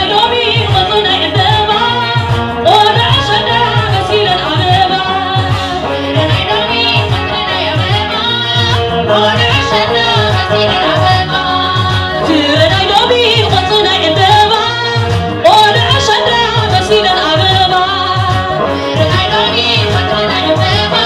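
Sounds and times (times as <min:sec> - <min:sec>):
live band playing: 0:00.0 - 0:21.0
woman singing into a microphone: 0:00.0 - 0:21.0.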